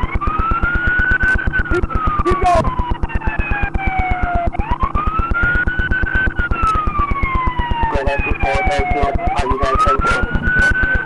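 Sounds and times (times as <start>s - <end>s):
police siren wailing: 0.0s - 11.0s
rapid low-pitched pulsing: 0.0s - 11.0s.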